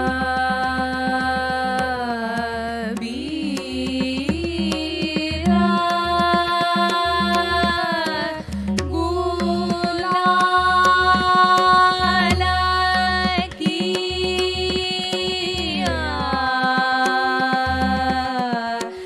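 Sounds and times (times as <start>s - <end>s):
women singing long notes: 0.0s - 19.0s.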